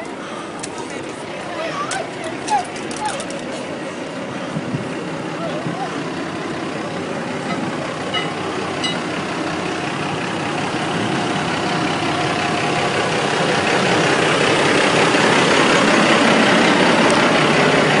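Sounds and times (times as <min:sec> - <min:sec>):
truck diesel engine rumbling: 0:00.0 - 0:18.0
traffic hiss on slushy road: 0:03.4 - 0:18.0.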